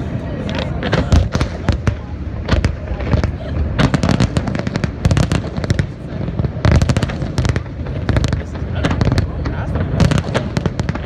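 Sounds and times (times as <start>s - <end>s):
firework cracks: 0.5s - 11.0s.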